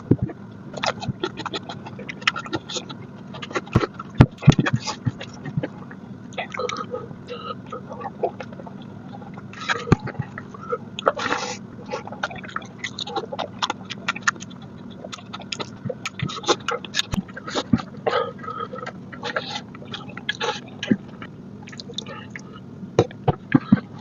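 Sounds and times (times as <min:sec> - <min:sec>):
person chewing and lip-smacking: 0:00.0 - 0:24.0.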